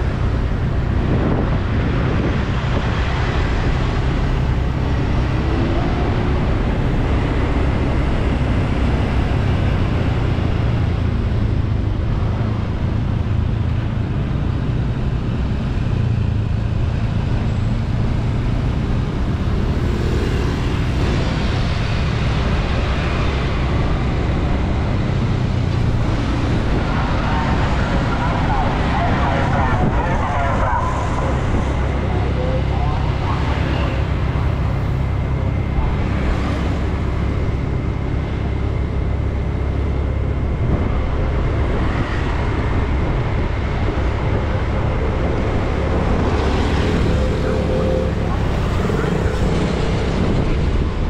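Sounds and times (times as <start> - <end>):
city road traffic rumble: 0.0 - 51.0.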